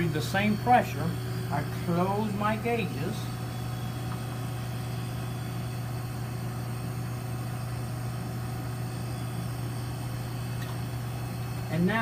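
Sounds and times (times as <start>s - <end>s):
compressor low hum: 0.0s - 12.0s.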